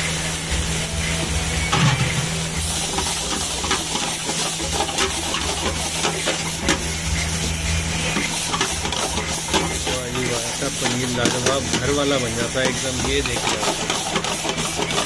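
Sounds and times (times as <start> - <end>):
food sizzling in a pan: 0.0 - 15.0
metal ladle scraping a pan: 1.6 - 15.0.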